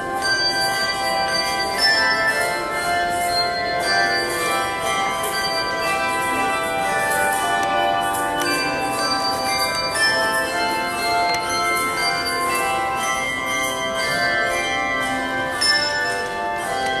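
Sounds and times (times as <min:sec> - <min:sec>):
handbells ringing in chords: 0:00.0 - 0:17.0.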